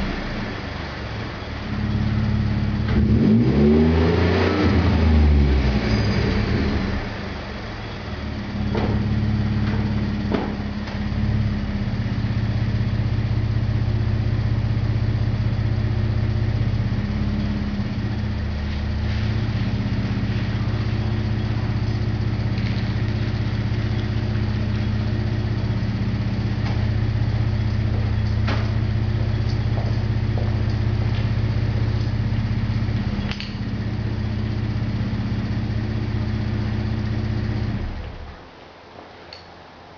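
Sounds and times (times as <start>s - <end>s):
truck engine idling exhaust: 0.0s - 39.9s.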